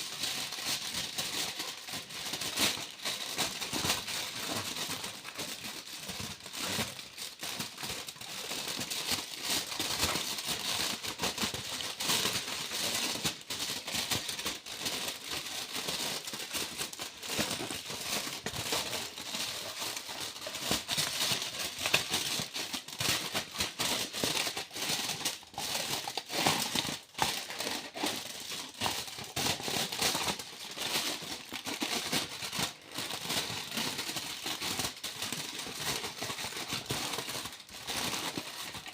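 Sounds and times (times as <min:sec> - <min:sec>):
foil being crinkled: 0:00.0 - 0:38.9.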